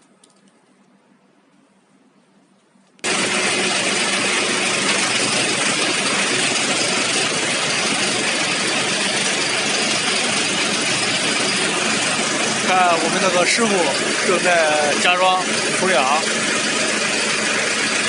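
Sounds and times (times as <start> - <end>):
air conditioning rushing: 3.0 - 18.0
harvester engine running: 3.0 - 18.0.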